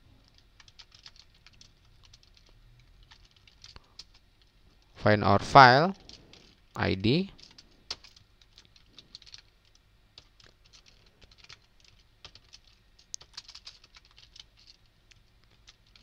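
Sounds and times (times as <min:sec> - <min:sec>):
faint keyboard typing: 0:00.0 - 0:05.0, 0:05.6 - 0:16.0.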